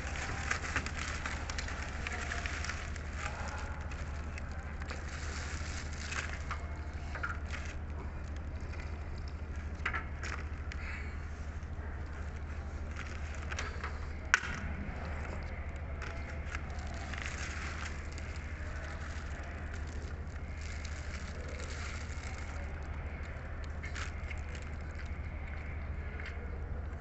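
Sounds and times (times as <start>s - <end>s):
chewing and crunching food: 0.0s - 27.0s
steady low hum: 0.0s - 27.0s.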